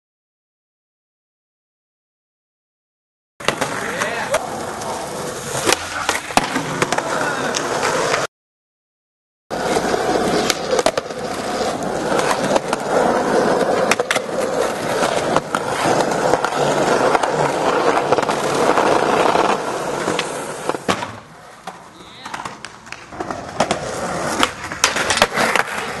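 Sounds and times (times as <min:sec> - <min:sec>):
skateboard clacking on ground: 0:03.4 - 0:08.3, 0:09.6 - 0:26.0
skateboard wheels rolling on concrete: 0:03.4 - 0:08.3, 0:09.5 - 0:26.0.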